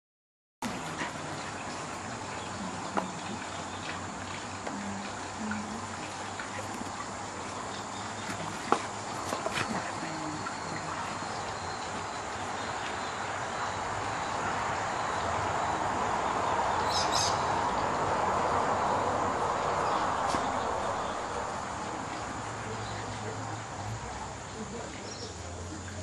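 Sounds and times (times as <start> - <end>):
broad rushing noise: 0.6 - 25.0
high insect drone: 1.0 - 26.0.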